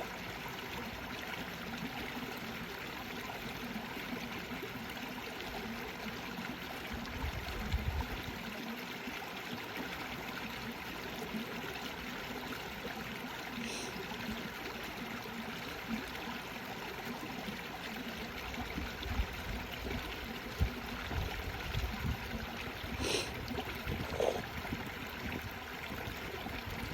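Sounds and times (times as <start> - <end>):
brook babbling: 0.0 - 26.9.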